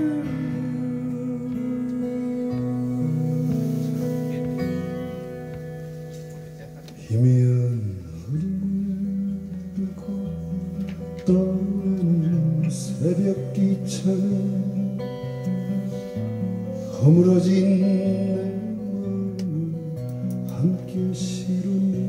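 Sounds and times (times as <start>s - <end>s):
man singing: 0.0s - 5.0s, 7.0s - 15.3s, 16.9s - 22.0s
acoustic guitar strumming: 0.0s - 22.0s.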